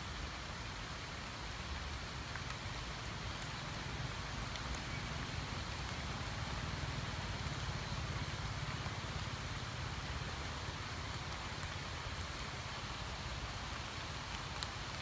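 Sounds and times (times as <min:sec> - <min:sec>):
rain falling on a pond: 0:00.0 - 0:15.0.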